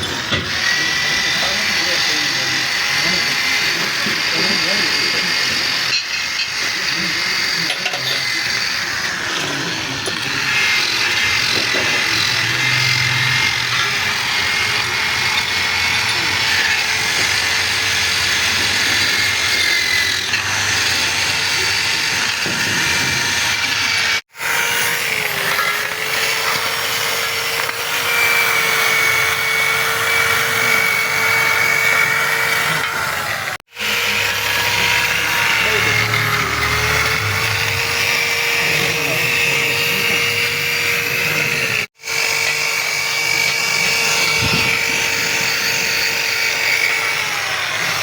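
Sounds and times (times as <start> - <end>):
power tool whining: 0.0 - 48.0.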